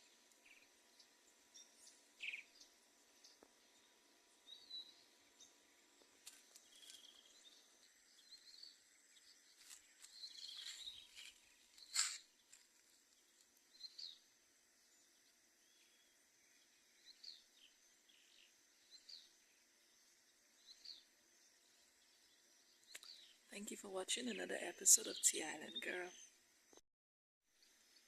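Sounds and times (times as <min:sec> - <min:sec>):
high insect drone: 0:00.0 - 0:23.5.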